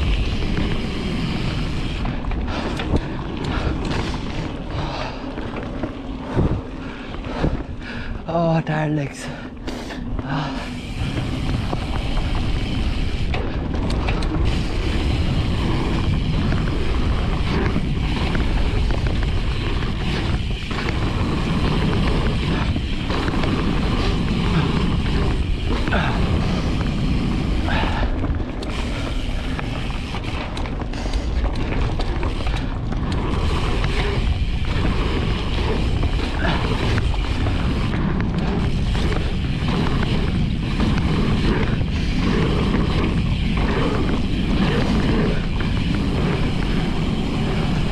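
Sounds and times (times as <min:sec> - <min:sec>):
bike rattling and knocking: 0:00.0 - 0:47.9
tyres rumbling on dirt: 0:00.0 - 0:47.9.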